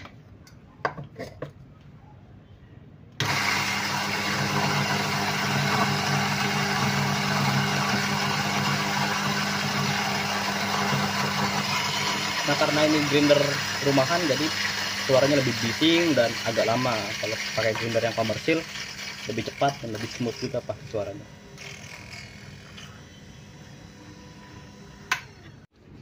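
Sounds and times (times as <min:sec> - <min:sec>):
coffee grinder motor hum: 0:03.2 - 0:25.6.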